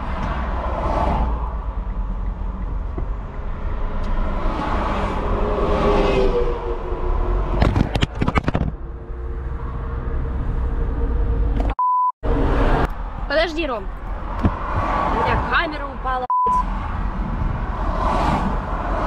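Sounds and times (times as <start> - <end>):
traffic passing: 0.0 - 8.0, 8.8 - 19.0
car engine rumbling: 0.0 - 19.0.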